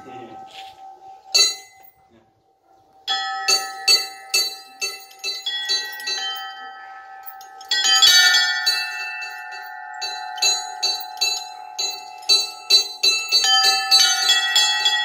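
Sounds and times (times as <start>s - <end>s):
heavy bell strike: 0.0s - 2.0s, 3.1s - 15.0s
small church bells ringing: 0.0s - 2.3s, 3.0s - 15.0s
lingering ring of bells: 0.0s - 15.0s.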